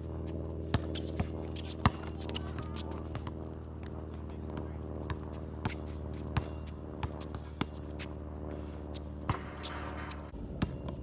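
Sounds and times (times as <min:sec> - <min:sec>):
steady low hum: 0:00.0 - 0:11.0
basketball bouncing on hard court: 0:00.7 - 0:08.1, 0:08.9 - 0:11.0.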